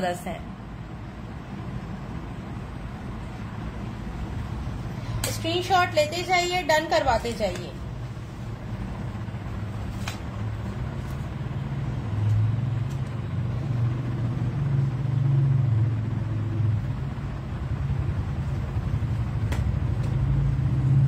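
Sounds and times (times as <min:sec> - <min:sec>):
low engine hum: 0:00.6 - 0:21.0.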